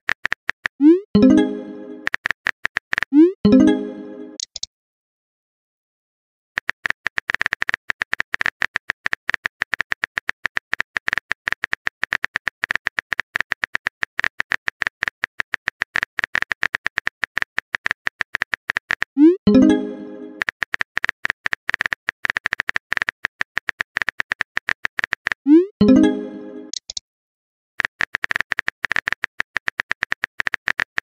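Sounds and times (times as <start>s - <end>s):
rapid keyboard typing clicks: 0.1s - 3.2s, 6.6s - 25.4s, 27.8s - 31.0s.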